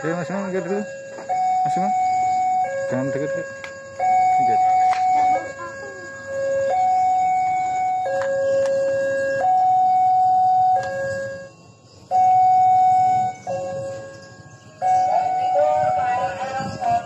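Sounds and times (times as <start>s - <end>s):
level crossing alarm tones: 0.0s - 17.0s.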